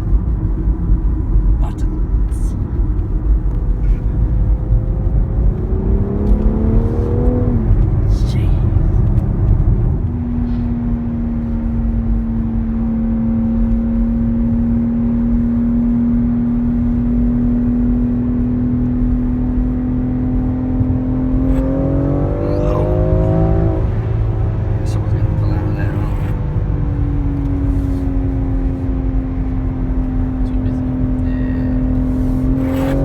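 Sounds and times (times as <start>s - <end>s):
car engine revving: 0.0s - 33.0s
low road rumble: 0.0s - 33.0s.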